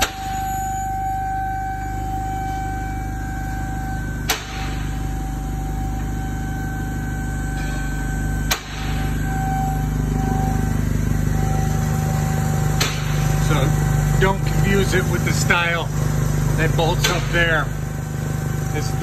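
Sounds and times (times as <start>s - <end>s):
car engine idling: 0.0s - 19.0s
high whine: 0.0s - 19.0s.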